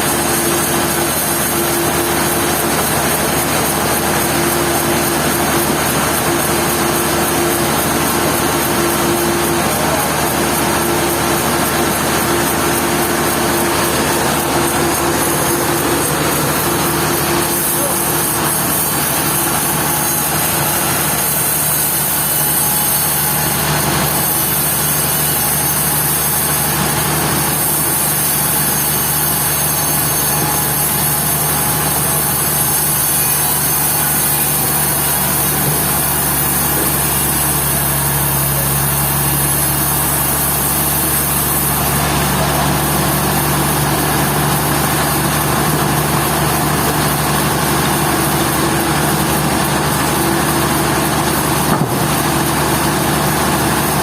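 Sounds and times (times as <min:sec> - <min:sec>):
sawmill machinery hum: 0:00.0 - 0:54.0.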